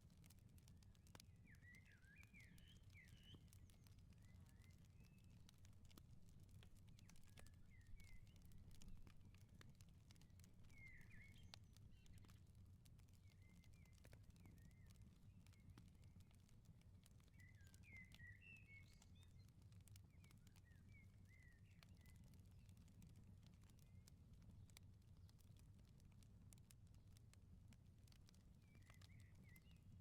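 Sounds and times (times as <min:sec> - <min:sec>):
wood fire crackling: 0:00.0 - 0:30.0
small birds chirping: 0:01.0 - 0:16.4, 0:17.0 - 0:24.1, 0:28.2 - 0:30.0.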